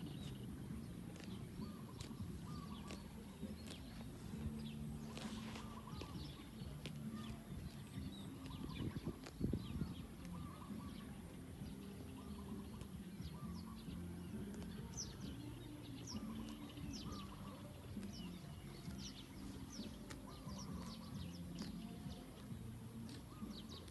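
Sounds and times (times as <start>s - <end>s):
small birds chirping: 0.0s - 23.9s
steady low rumble: 0.0s - 23.9s.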